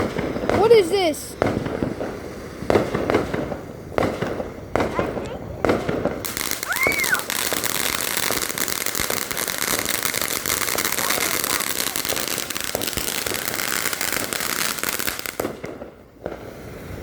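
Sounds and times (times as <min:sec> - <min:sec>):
firework crackling: 0:00.0 - 0:17.0.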